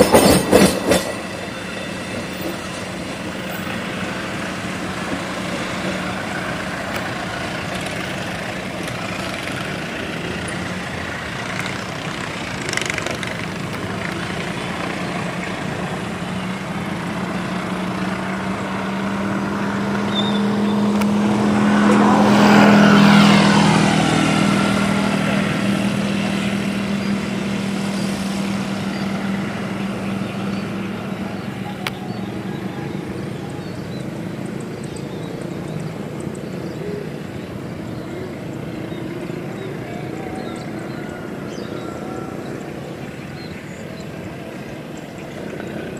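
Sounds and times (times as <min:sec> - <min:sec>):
passenger train running on track: 0:00.0 - 0:45.9
rail and wheel noise: 0:00.0 - 0:45.9.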